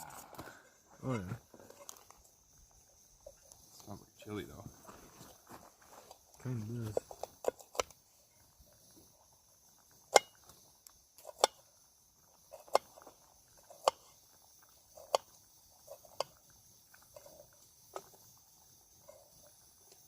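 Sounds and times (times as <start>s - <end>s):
campfire wood crackling: 0.0s - 20.0s.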